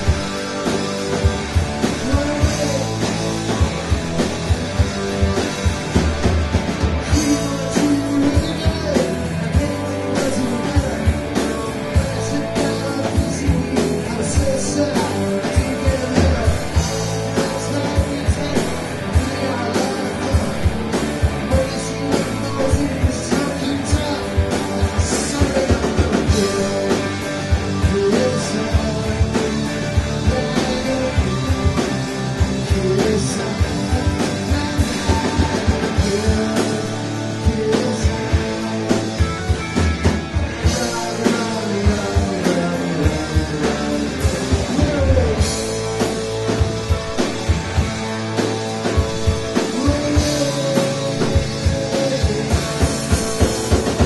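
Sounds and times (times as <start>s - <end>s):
drum kit beat: 0.0s - 54.0s
electric guitars: 0.0s - 54.0s.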